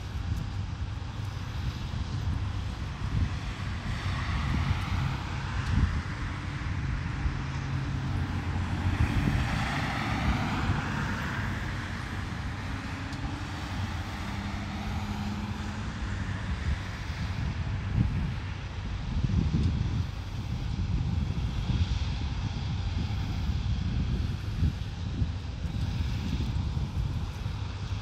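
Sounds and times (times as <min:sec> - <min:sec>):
drone propellers buzzing: 0:00.0 - 0:28.0
low rumble: 0:00.0 - 0:28.0.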